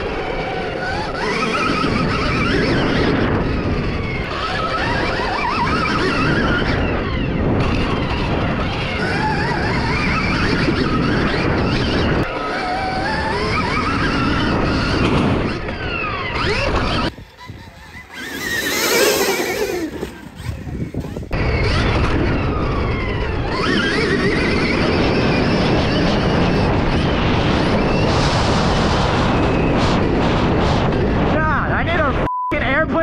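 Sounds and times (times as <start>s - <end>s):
wind and tyre noise: 0.0s - 33.0s.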